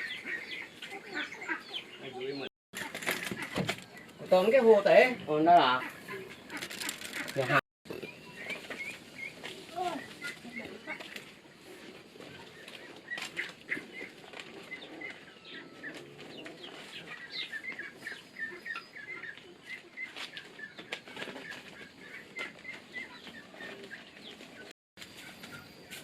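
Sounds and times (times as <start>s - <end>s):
chickens clucking and cheeping: 0.0s - 26.0s.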